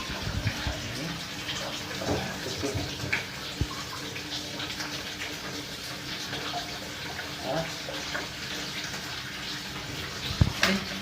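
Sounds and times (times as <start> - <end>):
water draining from washing machine: 0.0 - 11.0.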